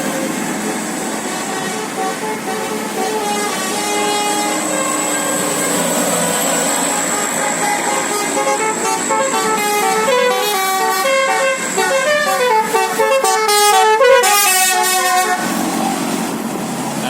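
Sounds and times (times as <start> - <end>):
bus musical horn playing: 0.0 - 16.3.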